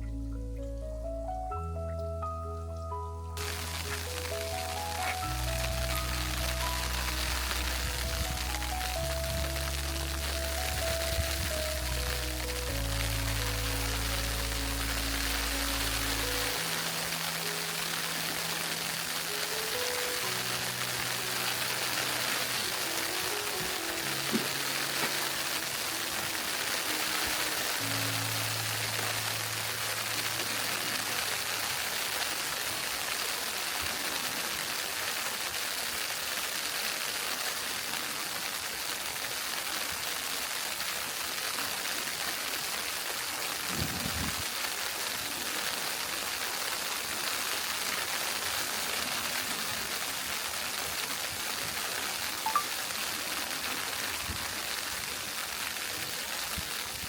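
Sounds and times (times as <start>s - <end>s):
fireplace crackling and hissing: 0.0s - 57.0s.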